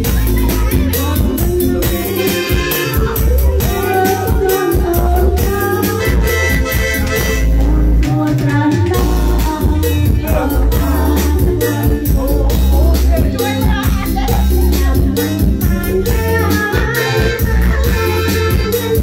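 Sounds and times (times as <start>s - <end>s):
electronic keyboard dance music: 0.0s - 8.0s, 9.0s - 19.0s.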